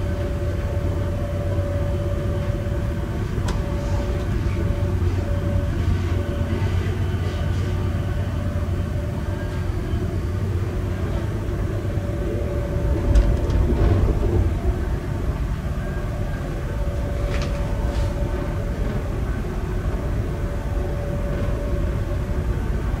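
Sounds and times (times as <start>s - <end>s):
steady hum: 0.0s - 23.0s
train rumble inside carriage: 0.0s - 23.0s.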